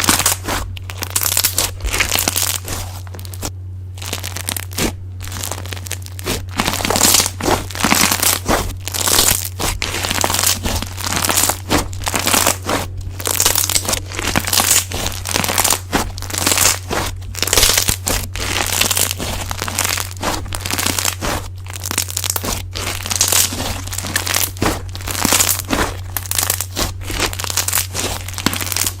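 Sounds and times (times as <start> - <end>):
slime squishing: 0.0 - 29.0
steady low hum: 0.0 - 29.0.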